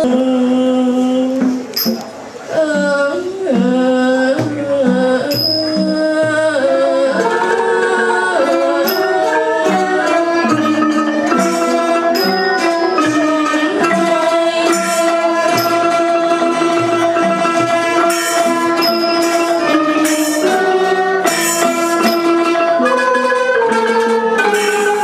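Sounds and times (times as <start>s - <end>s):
hammered dulcimer: 1.6s - 25.0s
bowed fiddles: 1.8s - 25.0s
xylophone: 4.4s - 25.0s.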